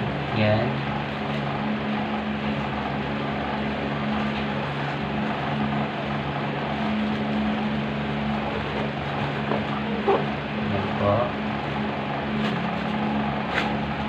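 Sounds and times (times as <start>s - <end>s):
small motor humming: 0.0s - 14.0s.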